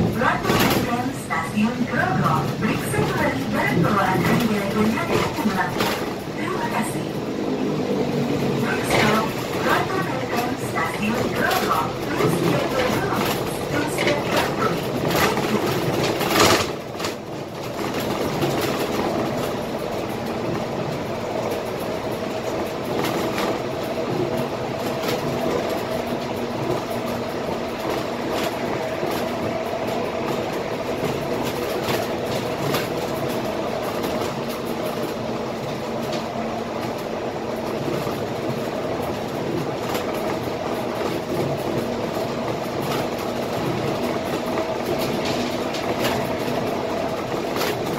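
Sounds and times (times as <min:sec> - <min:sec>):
bus engine and road noise: 0:00.0 - 0:47.9
body rattles and clicks: 0:08.9 - 0:47.9.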